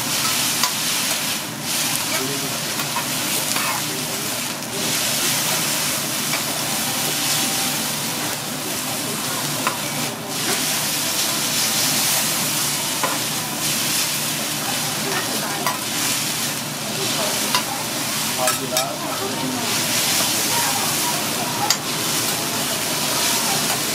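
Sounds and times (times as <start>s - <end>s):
noodles sizzling on a griddle: 0.0s - 23.9s.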